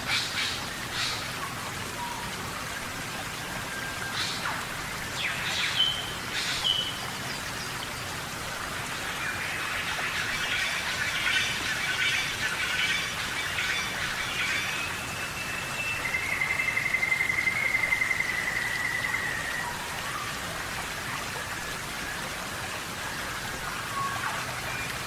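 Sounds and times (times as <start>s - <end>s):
rain falling on foliage: 0.0s - 25.0s.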